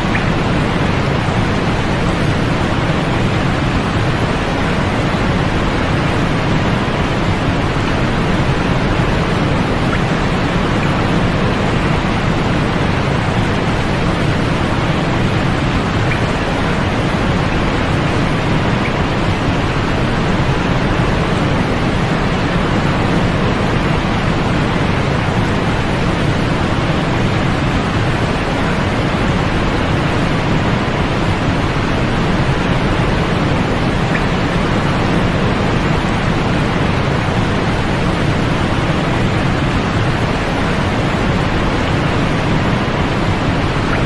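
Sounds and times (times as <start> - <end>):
white noise hiss: 0.0 - 44.0.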